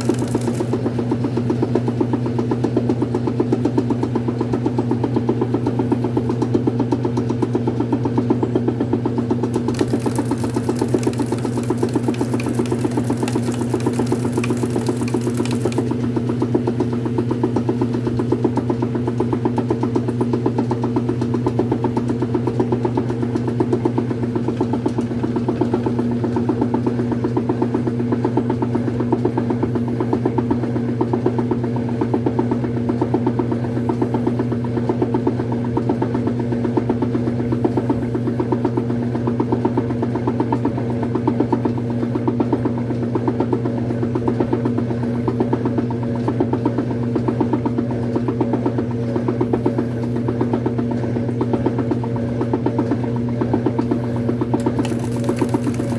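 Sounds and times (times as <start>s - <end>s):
washing machine running: 0.0s - 55.9s.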